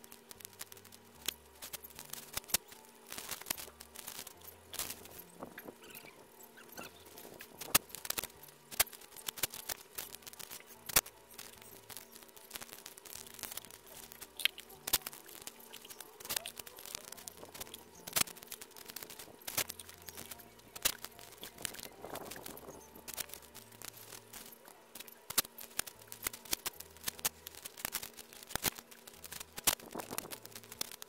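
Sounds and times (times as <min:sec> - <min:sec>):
masking tape tearing and crackling: 0:00.0 - 0:31.0.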